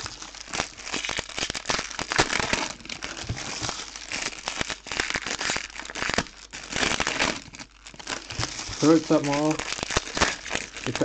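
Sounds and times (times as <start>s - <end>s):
foil wrappers crinkling: 0.0s - 11.0s
sharp crackles: 0.0s - 11.0s.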